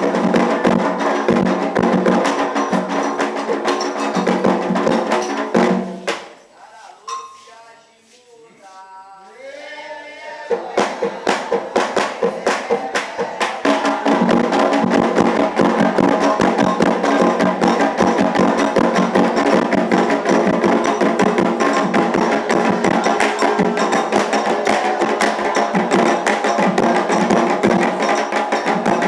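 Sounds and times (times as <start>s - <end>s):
voices singing: 0.0s - 5.4s, 6.4s - 29.0s
hand drums and percussion: 0.0s - 8.2s, 9.3s - 29.0s.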